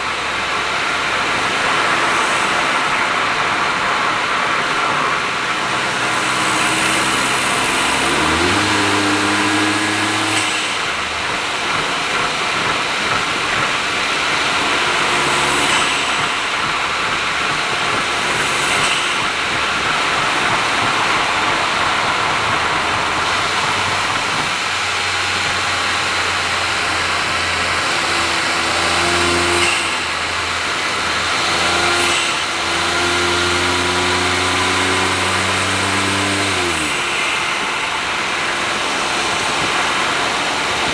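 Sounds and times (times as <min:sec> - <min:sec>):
car engine revving: 0:00.0 - 0:40.9
tyre and road noise: 0:00.0 - 0:40.9.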